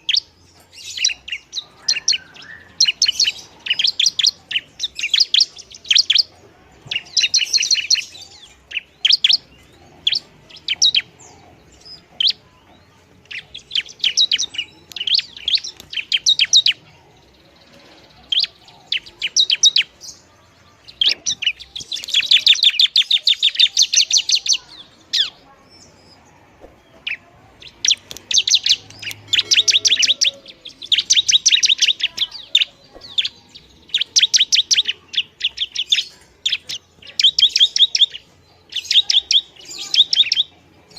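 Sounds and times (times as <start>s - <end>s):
bird chattering trills: 0.0s - 40.9s.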